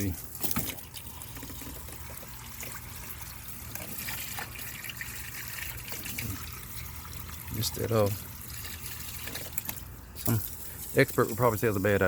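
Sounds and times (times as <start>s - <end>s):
garden hose water spraying: 0.0s - 12.0s.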